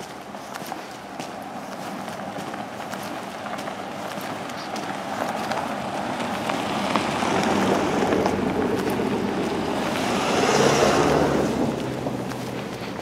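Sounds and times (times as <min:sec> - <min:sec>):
car passing by: 0:02.0 - 0:13.0.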